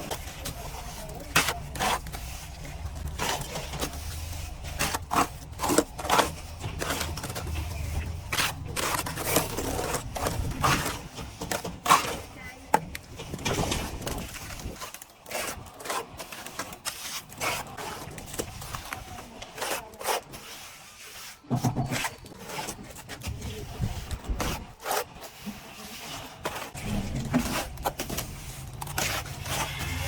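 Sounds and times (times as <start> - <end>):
trowel scraping across wall: 0.0 - 30.0.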